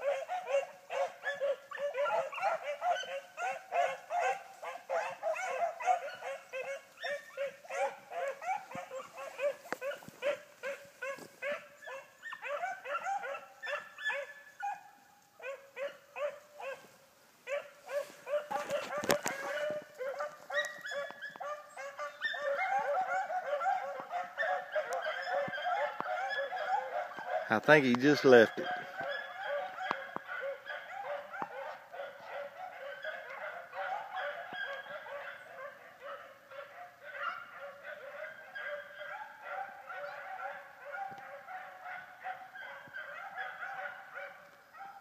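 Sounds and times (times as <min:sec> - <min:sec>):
pack of hounds baying: 0:00.0 - 0:45.0.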